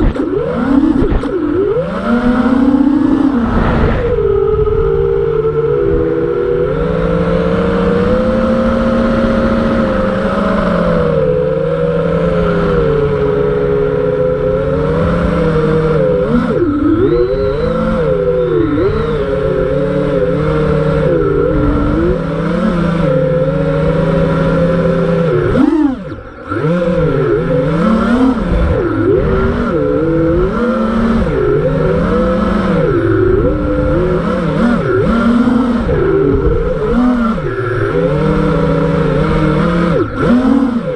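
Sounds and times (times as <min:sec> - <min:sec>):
quadcopter motor buzz: 0:00.0 - 0:40.9.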